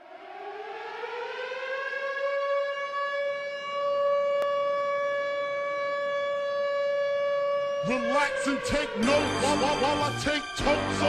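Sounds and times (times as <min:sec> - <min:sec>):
siren-like tone: 0:00.0 - 0:11.0.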